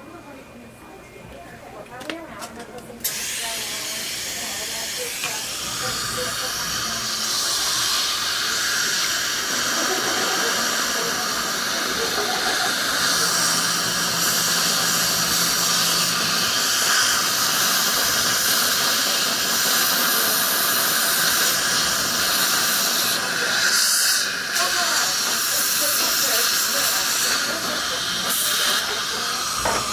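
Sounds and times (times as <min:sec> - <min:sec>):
dental equipment hissing: 0:03.0 - 0:29.9.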